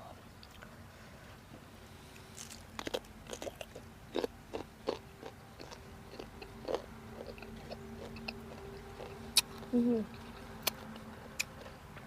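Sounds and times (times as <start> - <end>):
person chewing mango: 2.2 - 12.0.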